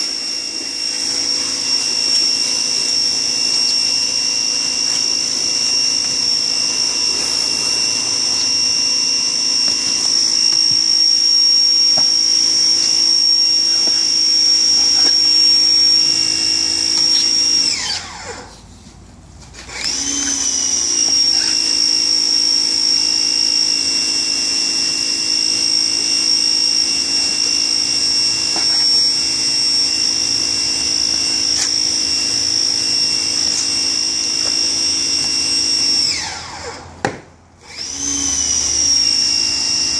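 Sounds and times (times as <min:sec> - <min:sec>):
electric knife motor whine: 0:00.0 - 0:18.6, 0:19.5 - 0:37.0, 0:37.6 - 0:39.9.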